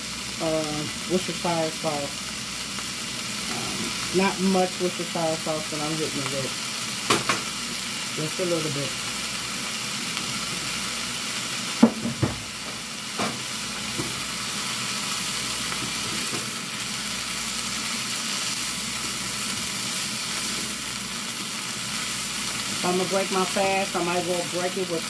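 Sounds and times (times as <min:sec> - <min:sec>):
vegetables sizzling in a skillet: 0:00.0 - 0:25.0.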